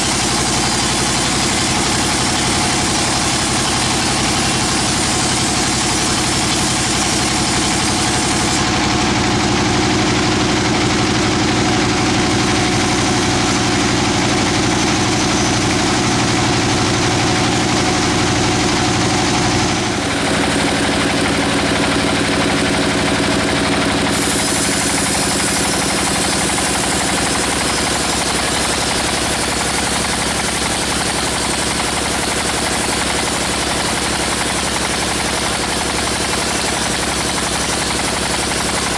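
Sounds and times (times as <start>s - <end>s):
sawmill mechanical drone: 0.0s - 38.9s.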